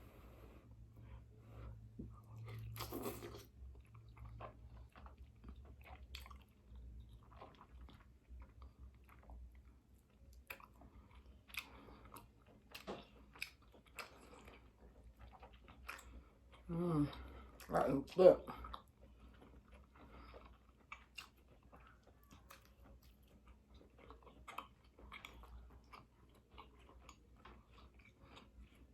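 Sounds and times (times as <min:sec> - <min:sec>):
close-up chewing and crunching: 0:00.7 - 0:28.9.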